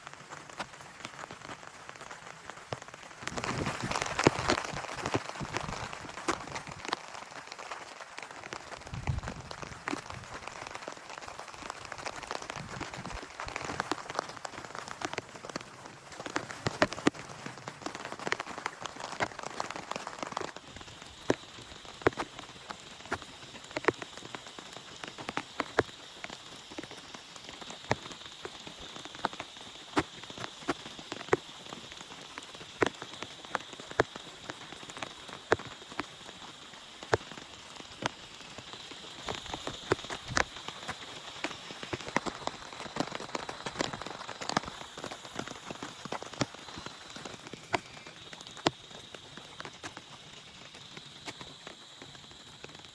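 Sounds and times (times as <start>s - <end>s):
heavy raindrops striking: 0.0s - 52.9s
rain hissing: 0.0s - 52.9s.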